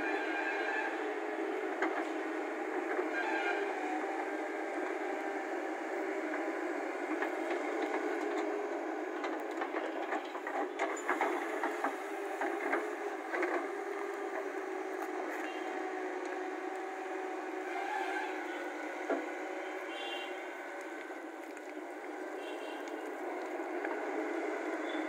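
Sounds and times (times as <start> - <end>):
construction machine engine whine: 0.0 - 25.0.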